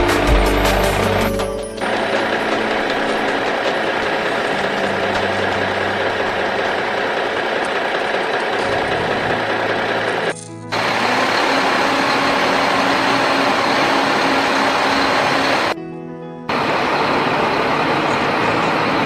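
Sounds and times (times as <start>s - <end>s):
vehicle engine idling: 0.0s - 15.8s, 16.5s - 19.0s.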